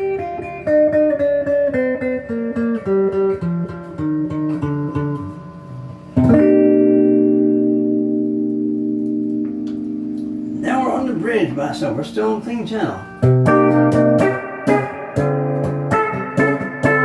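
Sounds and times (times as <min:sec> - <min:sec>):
electric guitar picked notes: 0:00.0 - 0:17.0
strummed guitar chord ringing: 0:00.0 - 0:17.0.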